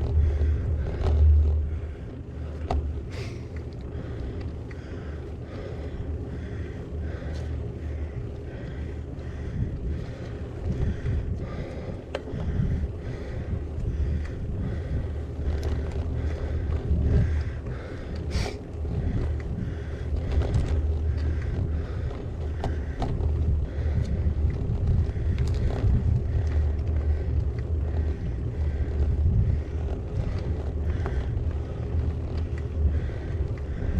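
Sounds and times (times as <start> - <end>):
bike clicks and knocks: 0.0 - 33.9
heavy uneven rumble: 0.0 - 33.9
wind buffeting microphone: 0.0 - 33.9.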